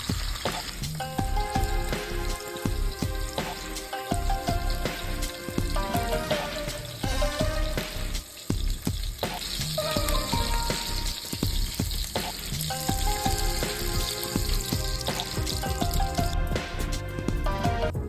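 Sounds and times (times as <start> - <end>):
background music with beat: 0.0 - 18.0
food frying and sizzling: 0.0 - 18.0.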